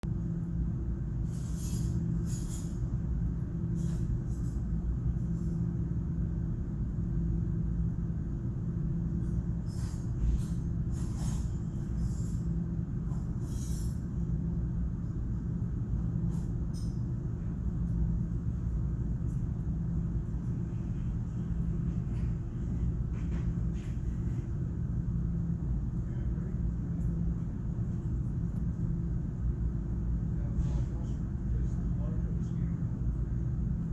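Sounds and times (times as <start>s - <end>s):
low rumble with hum: 0.0s - 33.9s.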